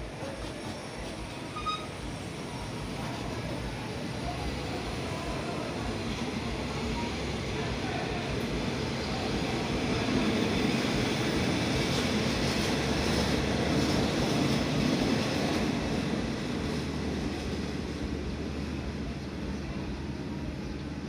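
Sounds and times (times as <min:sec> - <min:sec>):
train carriages rolling past: 0:00.0 - 0:21.0.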